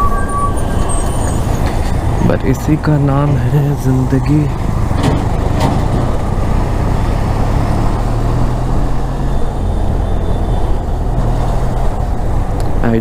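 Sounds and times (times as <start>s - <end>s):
motorcycle engine cruising: 0.0s - 13.0s
road traffic: 0.0s - 13.0s.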